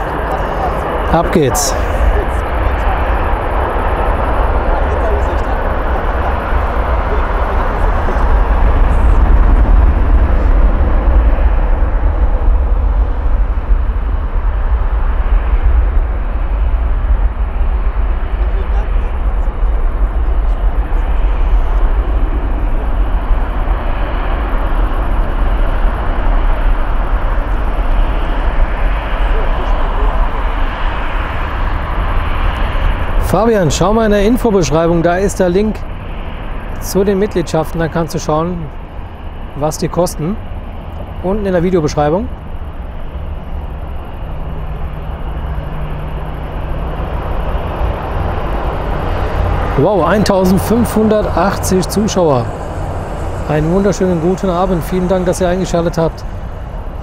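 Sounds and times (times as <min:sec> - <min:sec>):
jet airliner taking off: 0:00.0 - 0:57.0.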